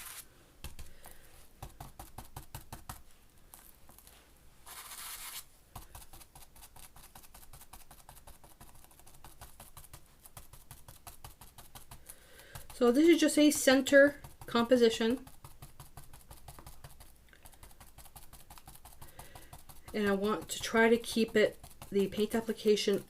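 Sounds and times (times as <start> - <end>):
stiff brush scrubbing paper: 0.0 - 0.2, 4.0 - 23.0.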